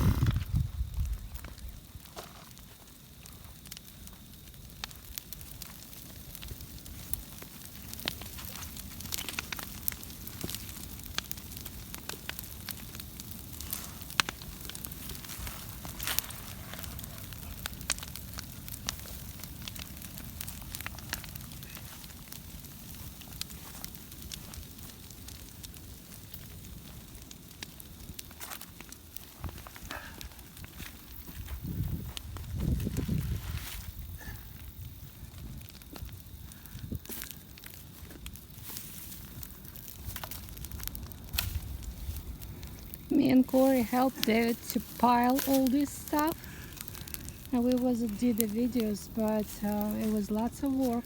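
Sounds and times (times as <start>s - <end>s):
brush fire crackling and popping: 0.0s - 51.0s
low fire rumble: 0.0s - 51.0s.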